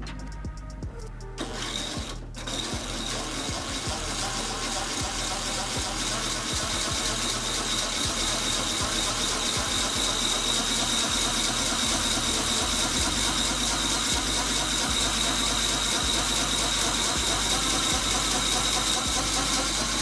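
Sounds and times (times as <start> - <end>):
electric drill grinding whine: 1.4 - 20.0.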